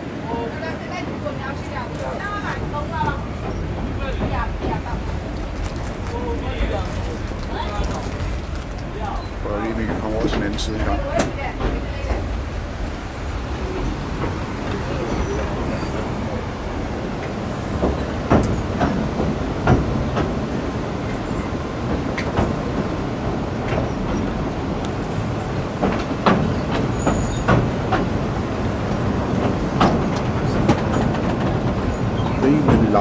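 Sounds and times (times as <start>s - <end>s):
train rumbling on viaduct: 0.0s - 33.0s
wheels clacking on track: 1.4s - 33.0s.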